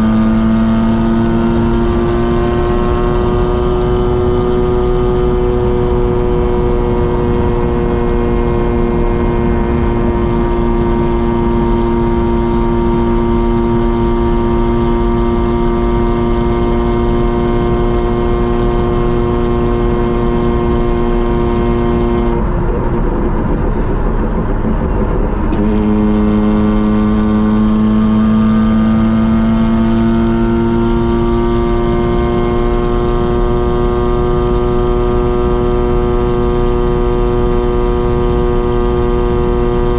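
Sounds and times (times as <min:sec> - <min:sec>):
rotary car engine driving: 0:00.0 - 0:39.9.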